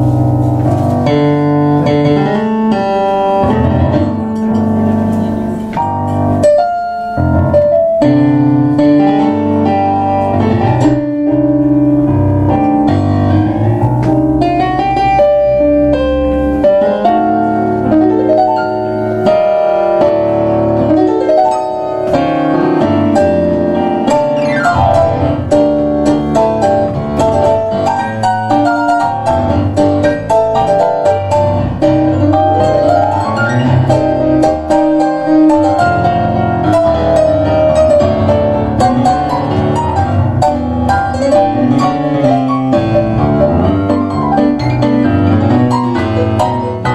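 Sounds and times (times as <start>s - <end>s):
two pianos playing a tango: 0.0s - 46.9s.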